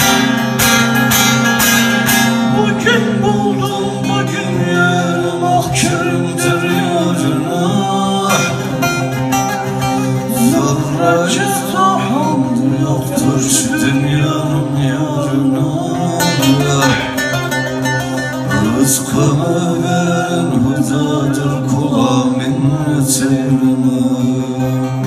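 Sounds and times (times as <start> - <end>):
long-necked lute plucked and strummed: 0.0 - 25.0
men singing through microphones: 2.3 - 25.0.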